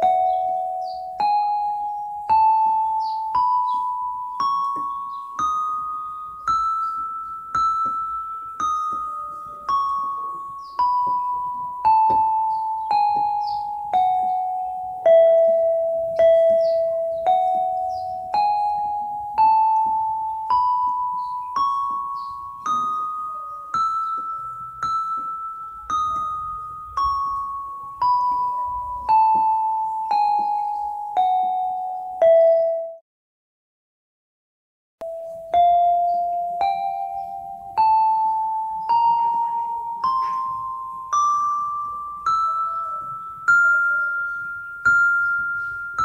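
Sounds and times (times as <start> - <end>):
electronic keyboard playing a scale: 0.0 - 33.0, 35.0 - 46.0.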